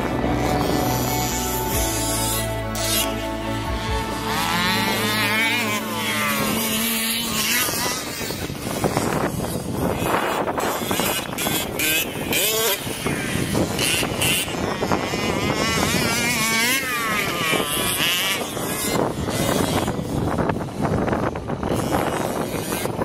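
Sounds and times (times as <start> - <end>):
rc car engines revving: 0.0 - 23.0.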